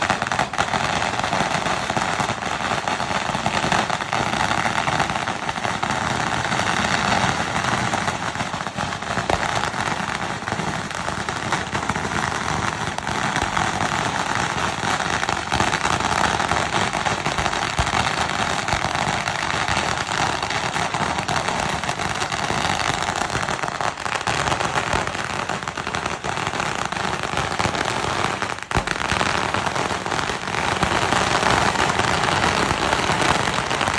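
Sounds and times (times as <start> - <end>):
fireworks crackling: 0.0 - 33.9.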